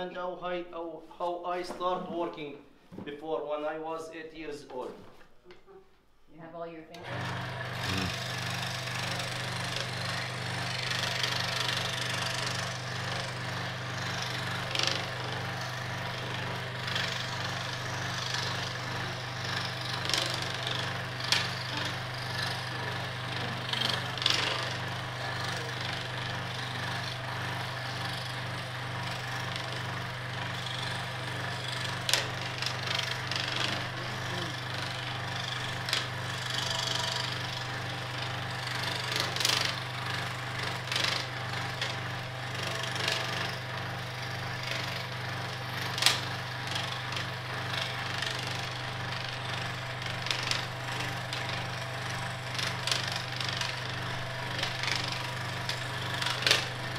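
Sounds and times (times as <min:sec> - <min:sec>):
saw blade rasping through wood: 0:07.0 - 0:56.9
scroll saw motor humming: 0:07.0 - 0:56.9.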